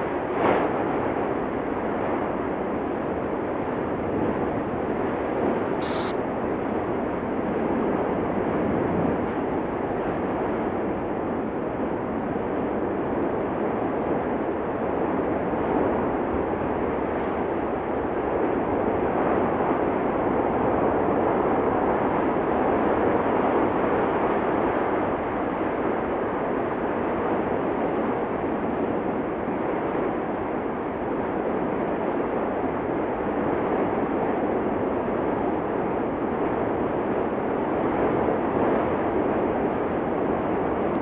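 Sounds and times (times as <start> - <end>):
volcanic eruption rushing noise: 0.0 - 41.0.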